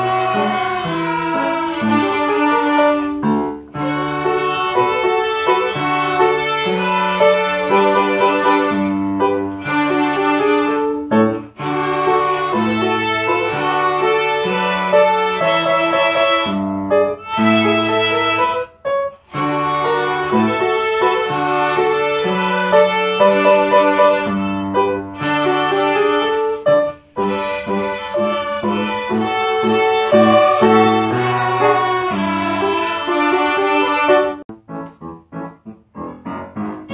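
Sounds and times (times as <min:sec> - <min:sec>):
bowed strings: 0:00.0 - 0:34.4
piano: 0:00.0 - 0:36.9.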